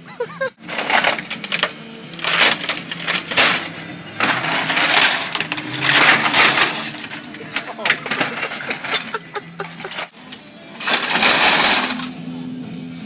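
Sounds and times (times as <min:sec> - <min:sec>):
breaking plastic crashes: 0:00.6 - 0:10.1, 0:10.8 - 0:12.2
printer being smashed apart: 0:00.6 - 0:10.1, 0:10.8 - 0:12.2.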